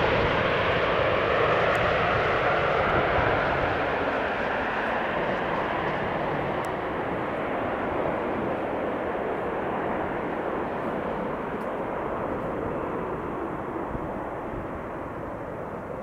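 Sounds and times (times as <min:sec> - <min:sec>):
turboprop engines rushing: 0:00.0 - 0:16.0.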